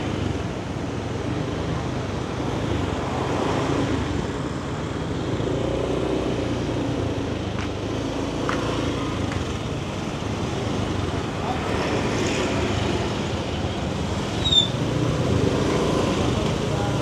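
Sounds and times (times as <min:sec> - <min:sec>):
other vehicles running: 0:00.0 - 0:17.0
scooter engine and wind rumbling: 0:00.0 - 0:17.0.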